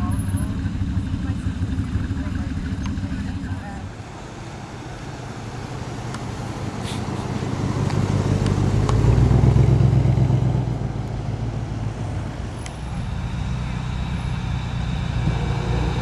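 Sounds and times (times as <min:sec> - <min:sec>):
car engine running slowly: 0:00.0 - 0:16.0.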